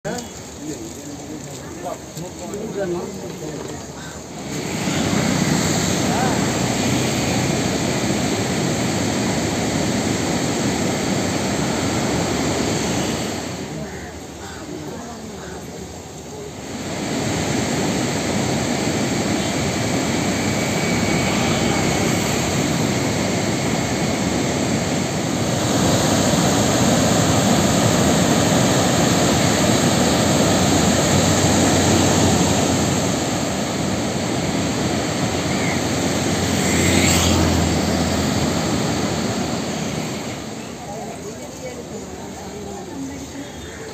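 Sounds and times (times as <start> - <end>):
water rushing over weir: 0.1 - 43.9.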